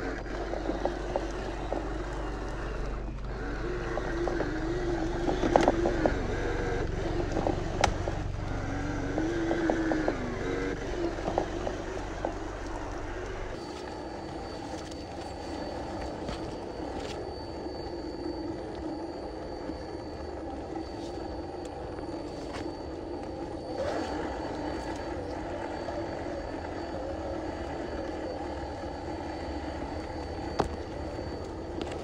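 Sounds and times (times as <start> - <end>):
rc truck motor whining: 0.0 - 32.0.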